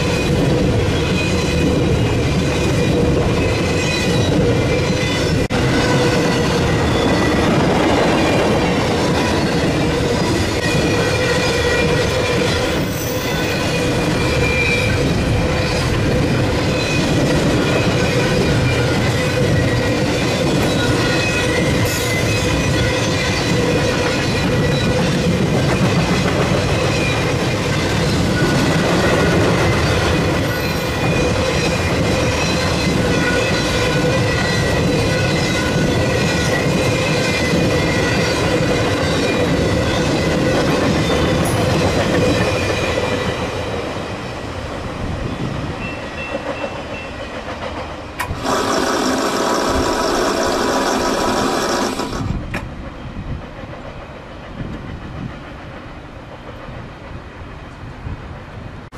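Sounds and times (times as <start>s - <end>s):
train wheels clacking on rail: 0.0s - 58.9s.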